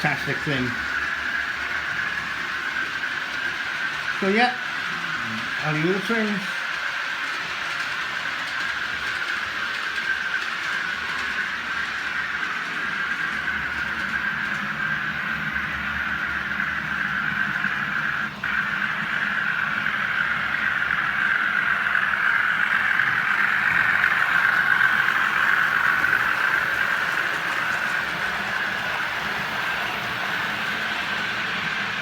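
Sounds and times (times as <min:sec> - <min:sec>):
model train motor whirring: 0:00.0 - 0:32.0.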